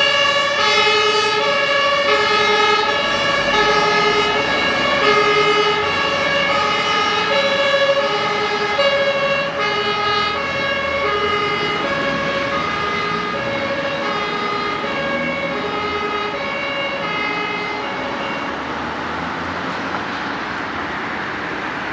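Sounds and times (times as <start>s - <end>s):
road traffic noise: 0.0s - 21.9s
two-tone fire siren: 0.0s - 21.9s.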